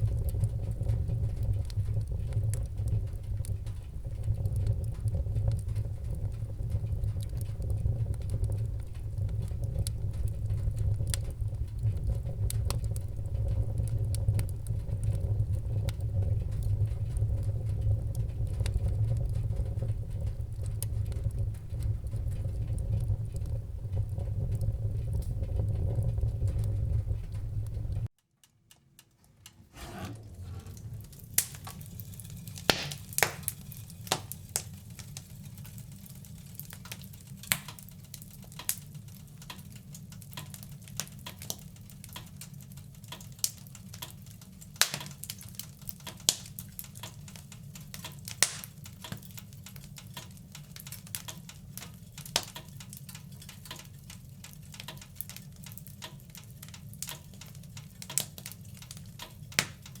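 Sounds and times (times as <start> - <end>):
low rumble of burning fire: 0.0 - 60.0
wood fire crackling and popping: 0.0 - 60.0.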